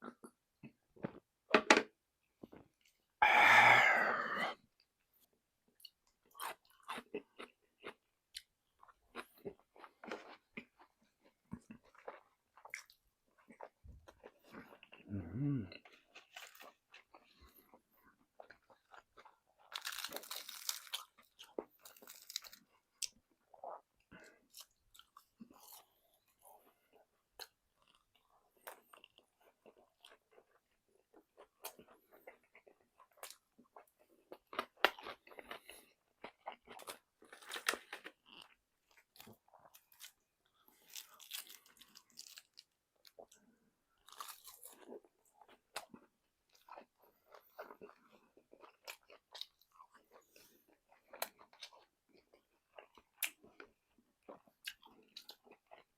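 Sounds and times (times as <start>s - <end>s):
chewing crunchy fried chicken: 0.0s - 1.3s, 2.4s - 55.9s.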